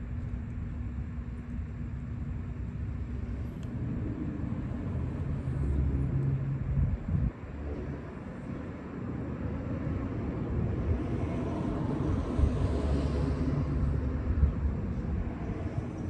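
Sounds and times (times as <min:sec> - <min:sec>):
passing vehicle engine rumble: 0:03.0 - 0:16.0.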